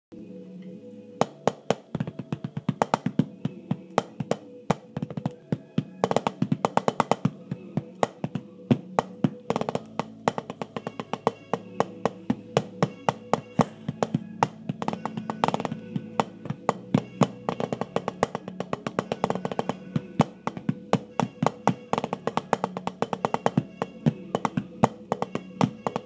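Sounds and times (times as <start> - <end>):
recorded song: 0.1 - 26.0
drumsticks on practice pad: 1.2 - 26.0.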